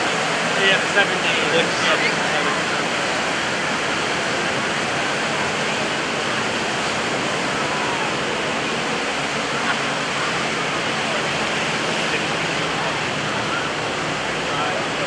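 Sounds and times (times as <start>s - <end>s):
surf rushing: 0.0s - 15.0s
wind: 0.0s - 15.0s.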